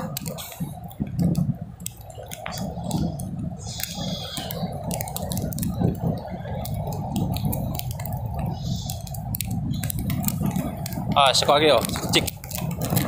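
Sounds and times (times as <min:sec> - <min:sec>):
surf breaking on a beach: 0:00.0 - 0:13.0
light clicks and taps: 0:00.1 - 0:13.0.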